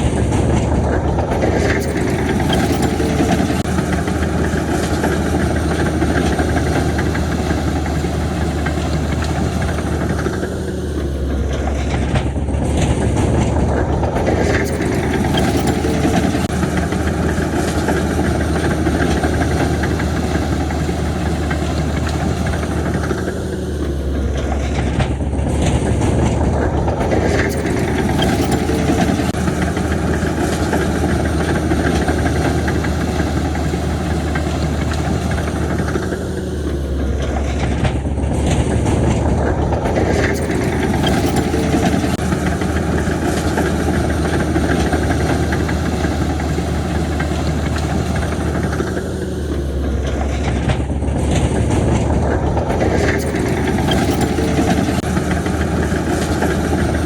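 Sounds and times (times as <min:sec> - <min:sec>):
heavy diesel machinery engines: 0:00.0 - 0:57.0.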